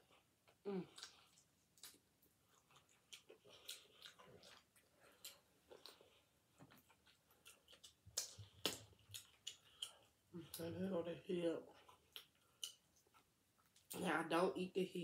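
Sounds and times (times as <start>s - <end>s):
faint chewing smacks and clicks: 0.0s - 14.1s.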